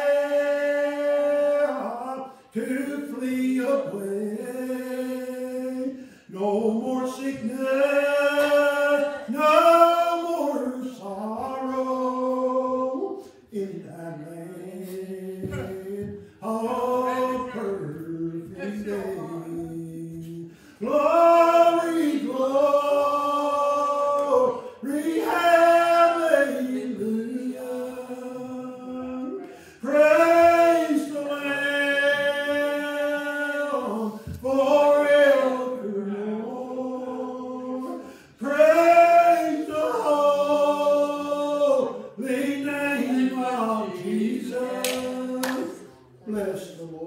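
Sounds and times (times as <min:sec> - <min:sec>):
man singing gospel unaccompanied: 0:00.0 - 0:47.0.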